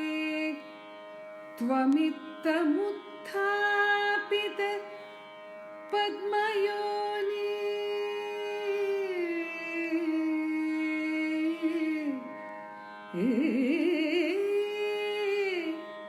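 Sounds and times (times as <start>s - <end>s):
woman singing: 0.0s - 0.7s, 1.6s - 4.8s, 5.9s - 12.3s, 13.1s - 15.9s.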